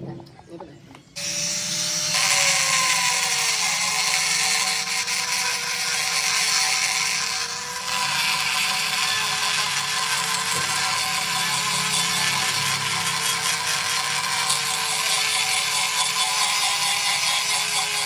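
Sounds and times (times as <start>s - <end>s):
power tool motor running: 1.2s - 18.0s.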